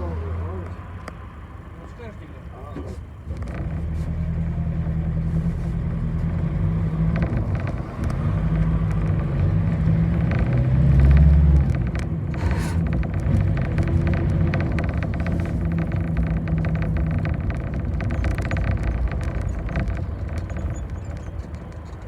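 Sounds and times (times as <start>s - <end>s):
bus engine drone: 0.0s - 22.0s
tyre and road noise: 0.0s - 22.0s
rattles: 3.2s - 22.0s.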